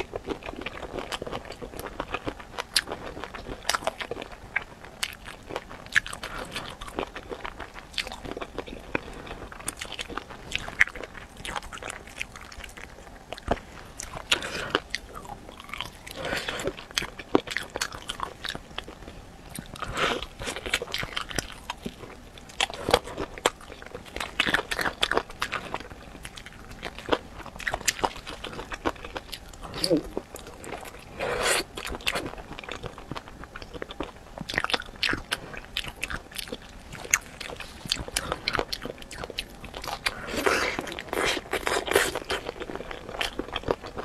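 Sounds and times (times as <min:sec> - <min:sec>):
person chewing: 0:00.0 - 0:44.0.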